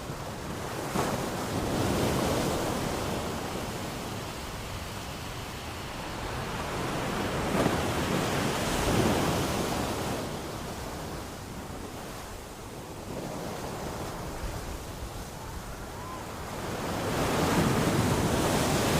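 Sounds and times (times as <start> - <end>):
ocean waves breaking on beach: 0.0 - 18.9.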